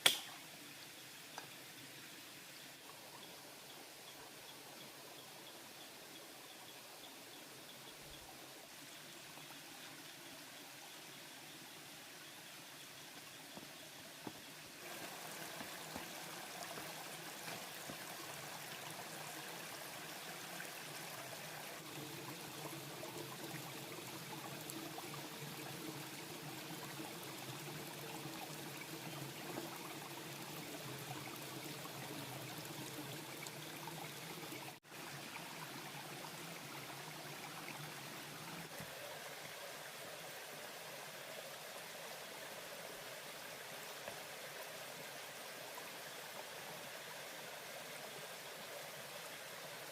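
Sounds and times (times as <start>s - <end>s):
stream running over rocks: 0.0s - 49.9s.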